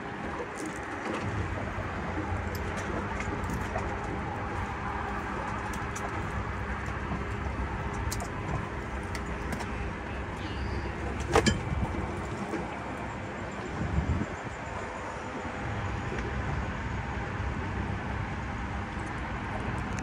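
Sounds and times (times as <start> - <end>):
boat motor rumbling: 0.0 - 20.0.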